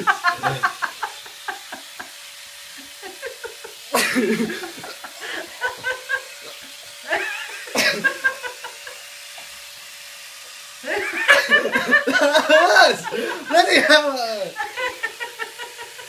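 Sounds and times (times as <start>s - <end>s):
laughter: 0.0s - 2.2s, 2.8s - 9.1s, 10.8s - 16.0s
electric epilator whirring: 0.0s - 16.0s.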